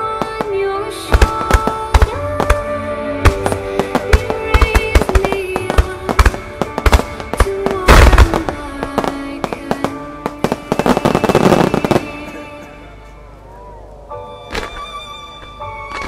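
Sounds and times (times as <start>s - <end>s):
fireworks crackling: 0.0s - 12.9s
music: 0.0s - 16.0s.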